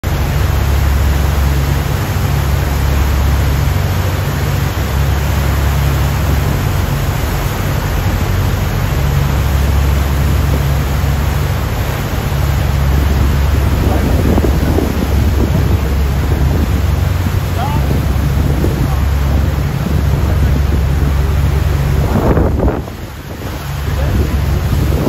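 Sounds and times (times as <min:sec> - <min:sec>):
rushing wind and water: 0:00.0 - 0:25.0
wind buffeting microphone: 0:00.0 - 0:25.0.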